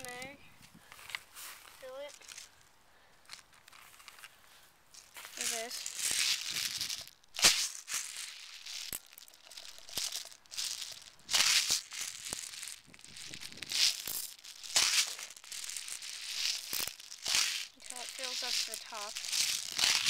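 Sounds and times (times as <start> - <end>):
plastic pellets rattling: 1.6 - 2.7, 4.9 - 20.0.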